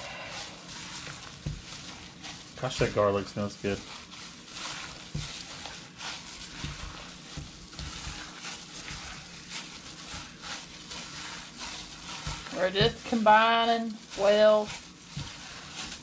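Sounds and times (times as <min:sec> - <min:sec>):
plastic gloves rustling: 0:00.0 - 0:16.0
squishing raw meat: 0:00.0 - 0:16.0.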